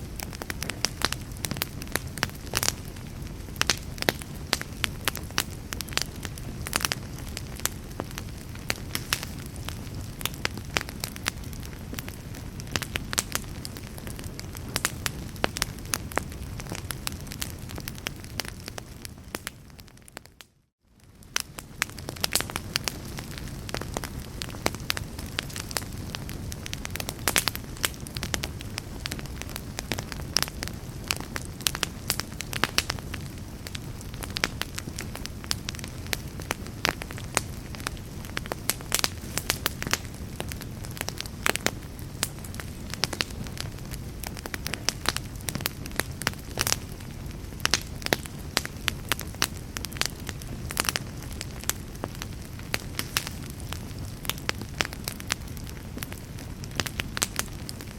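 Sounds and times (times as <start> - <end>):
log fire crackling: 0.0 - 57.9.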